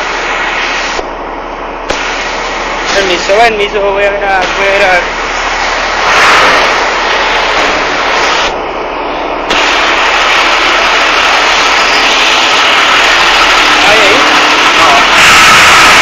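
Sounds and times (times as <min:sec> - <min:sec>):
fire engine rushing noise: 0:01.6 - 0:16.0.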